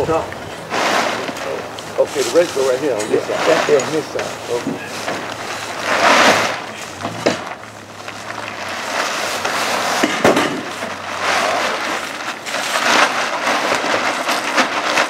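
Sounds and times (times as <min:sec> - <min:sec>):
plastic tarp crinkling: 0:00.0 - 0:15.0.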